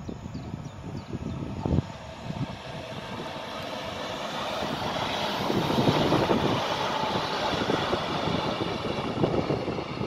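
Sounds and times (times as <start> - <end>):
train wheels rumbling on rails: 1.1 - 10.0.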